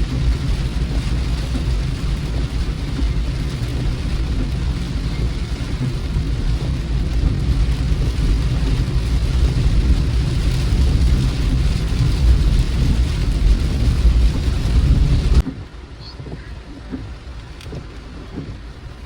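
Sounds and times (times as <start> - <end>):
rain hissing: 0.0 - 19.0
road and engine rumble: 0.0 - 19.0
car cabin hum: 0.1 - 19.0.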